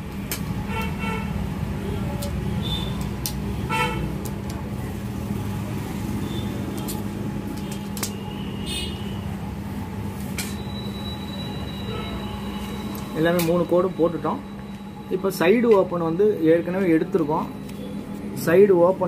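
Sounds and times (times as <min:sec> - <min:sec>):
low background hum and rumble: 0:00.0 - 0:19.0.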